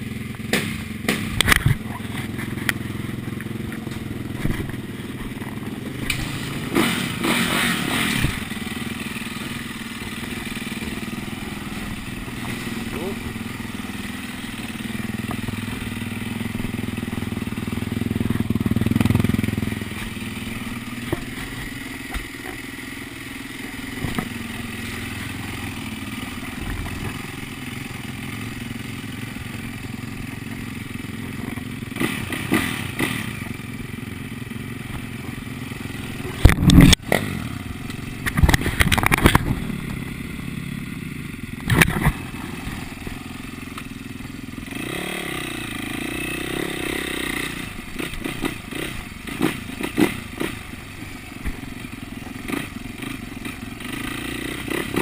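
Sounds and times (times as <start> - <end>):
dirt bike engine idling: 0.0 - 55.0.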